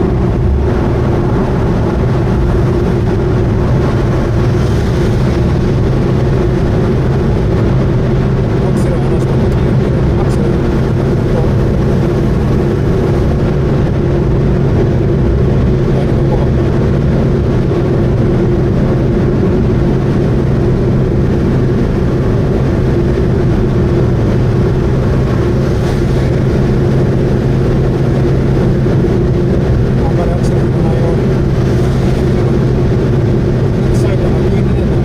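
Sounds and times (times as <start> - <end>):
car engine droning at cruise: 0.0 - 35.0.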